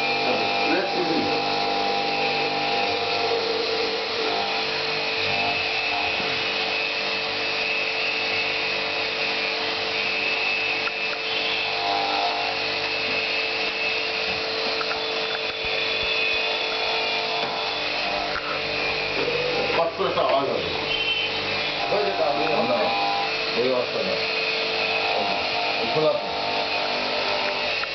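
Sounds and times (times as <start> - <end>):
electric jet pump running: 0.0 - 27.9.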